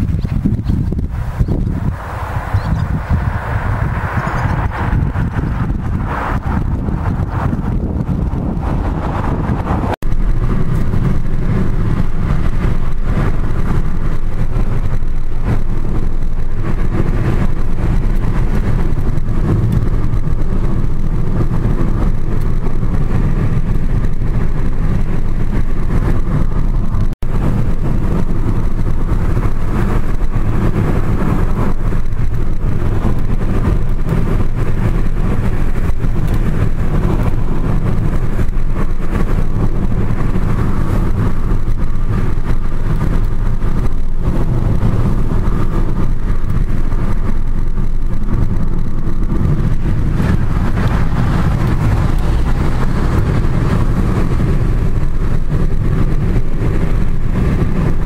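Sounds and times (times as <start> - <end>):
car driving road and engine noise: 0.0 - 58.0.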